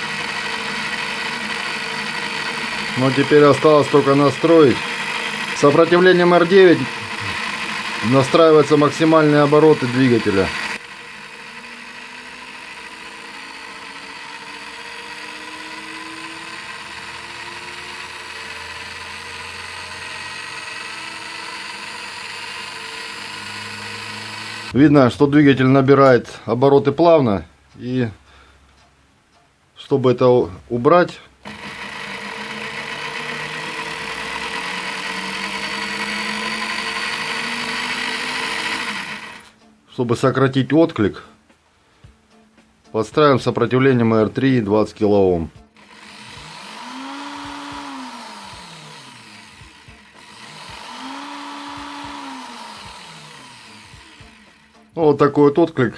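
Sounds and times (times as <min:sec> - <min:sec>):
drill press motor whine: 0:00.0 - 0:24.9, 0:31.4 - 0:40.9, 0:43.4 - 0:55.7.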